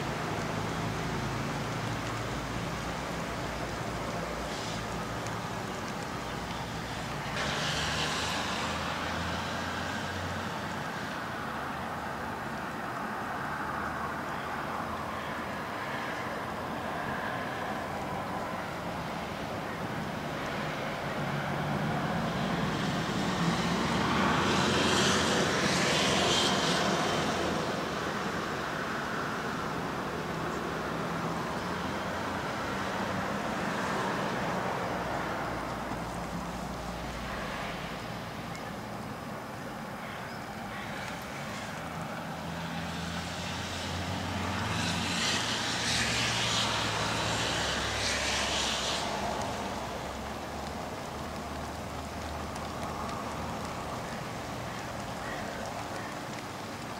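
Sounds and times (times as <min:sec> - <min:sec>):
vehicle passing: 0:00.0 - 0:11.2, 0:20.4 - 0:39.0, 0:40.6 - 0:56.9.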